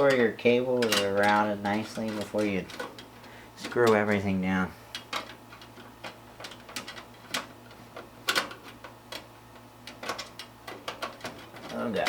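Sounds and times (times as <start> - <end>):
computer hardware clicks and knocks: 0.0 - 4.3, 4.9 - 12.0.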